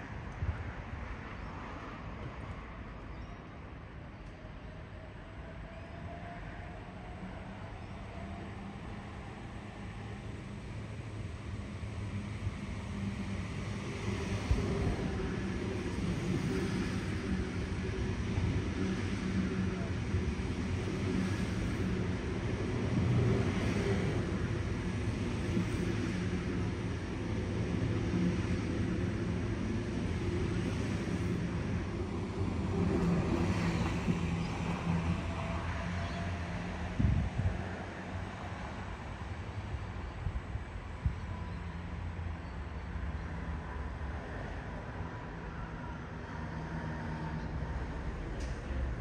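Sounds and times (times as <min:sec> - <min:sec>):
train rumbling past: 0:05.0 - 0:49.0.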